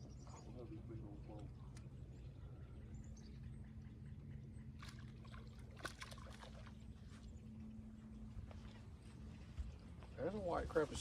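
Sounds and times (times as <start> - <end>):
steady low hum: 0.0 - 11.0
water lapping against boat hull: 0.3 - 11.0.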